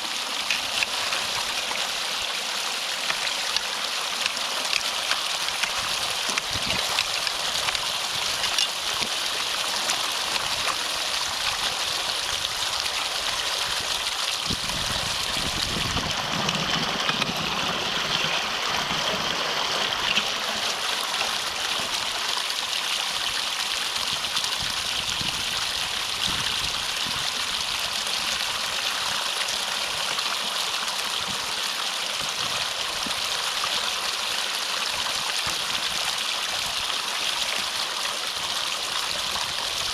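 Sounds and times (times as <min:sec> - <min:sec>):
water gurgling through culvert: 0:00.0 - 0:39.9.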